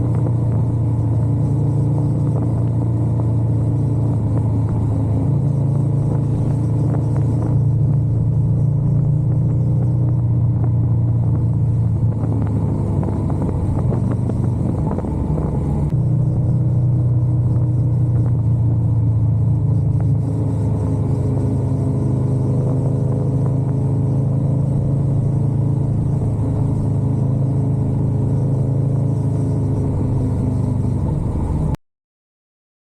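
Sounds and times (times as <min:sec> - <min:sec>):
motorcycle engine running: 0:00.0 - 0:31.8
road noise: 0:00.0 - 0:31.8.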